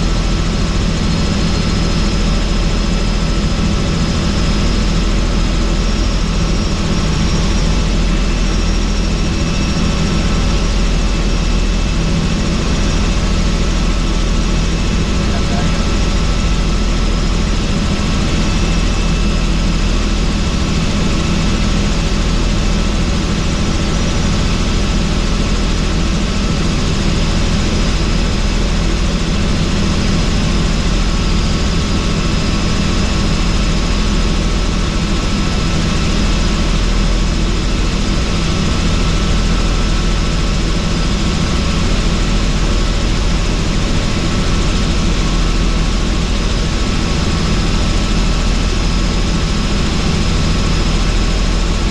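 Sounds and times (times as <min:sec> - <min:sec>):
helicopter deep drone: 0:00.0 - 0:51.9.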